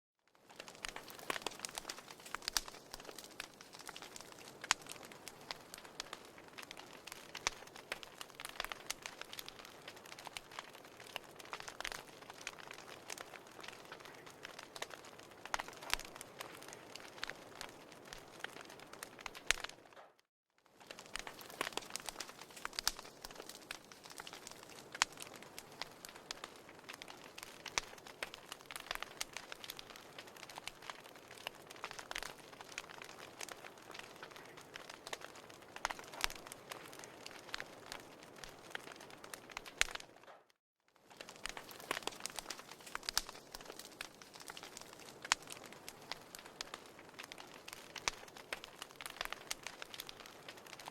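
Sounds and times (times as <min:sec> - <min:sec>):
firewood crackling and popping: 0:00.3 - 0:50.9.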